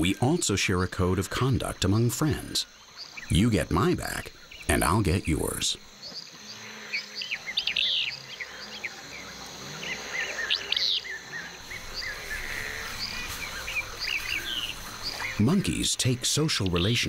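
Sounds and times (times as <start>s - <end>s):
insects droning: 0.0s - 17.0s
bird chirps: 3.0s - 17.0s.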